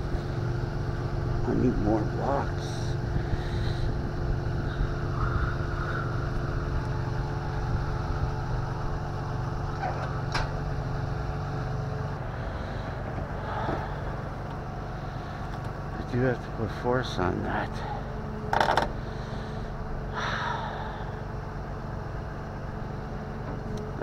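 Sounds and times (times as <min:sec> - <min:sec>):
even hum: 0:00.0 - 0:24.0
truck engine idling: 0:00.0 - 0:24.0.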